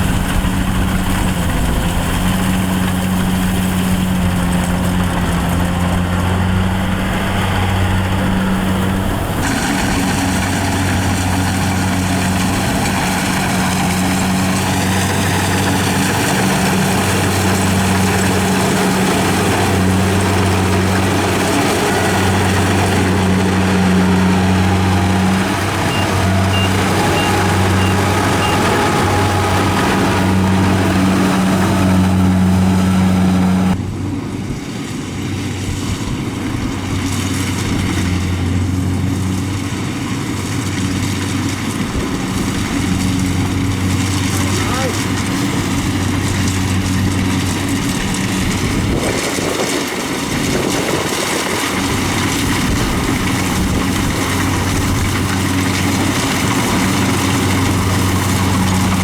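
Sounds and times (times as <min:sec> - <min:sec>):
harvesting machine engine running: 0:00.0 - 0:59.0.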